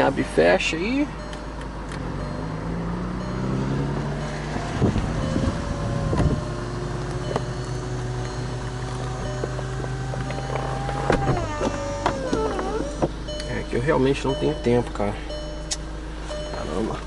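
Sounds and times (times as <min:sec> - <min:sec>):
convertible roof motor hum: 0:00.0 - 0:17.0
roof parts clunking: 0:01.2 - 0:15.7.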